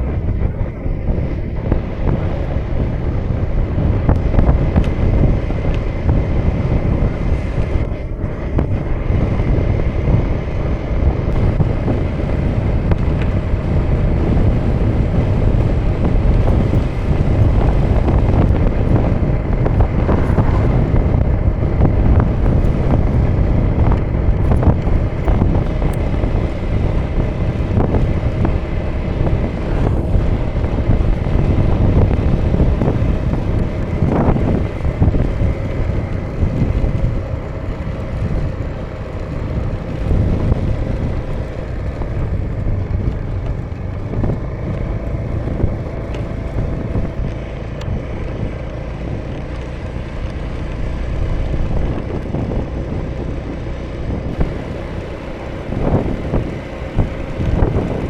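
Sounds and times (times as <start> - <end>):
scooter engine running: 0.0 - 58.0
wind buffeting microphone: 0.0 - 58.0.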